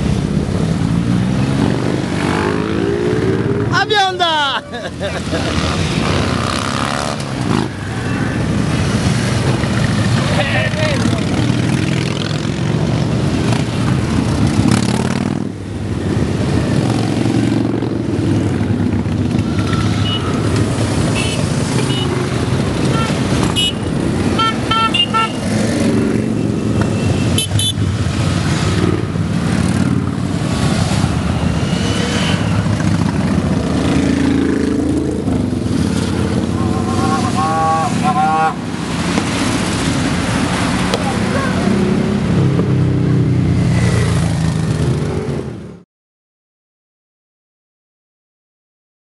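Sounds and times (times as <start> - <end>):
motorcycle engines revving: 0.0 - 45.8.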